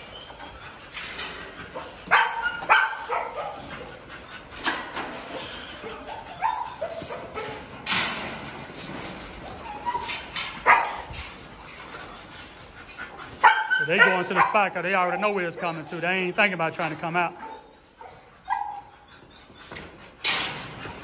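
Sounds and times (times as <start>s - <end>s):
dogs barking: 0.0s - 7.8s, 9.4s - 19.3s
dogs whining with high squeals: 0.0s - 21.0s.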